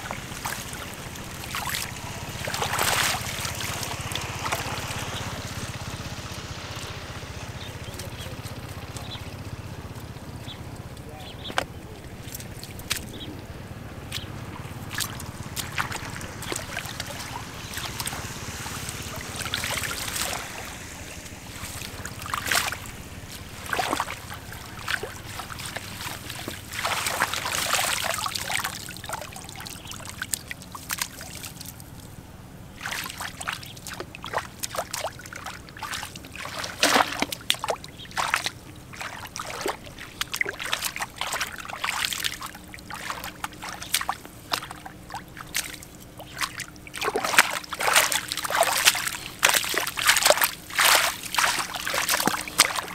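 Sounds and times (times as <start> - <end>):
bare feet wading: 0.0 - 52.9
muddy water sloshing and splashing: 0.0 - 52.9
hands slapping in mud: 0.1 - 6.0, 11.4 - 13.4, 14.0 - 20.8, 21.5 - 31.8, 32.8 - 52.9.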